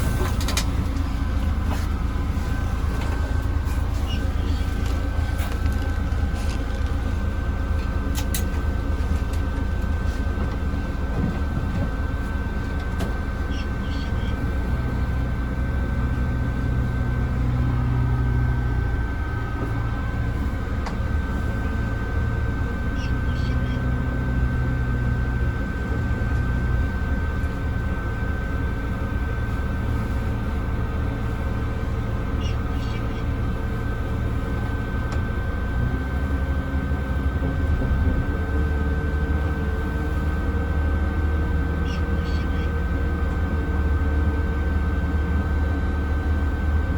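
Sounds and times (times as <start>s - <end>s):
bus diesel engine running: 0.0s - 46.9s
steady high whine: 0.0s - 46.9s.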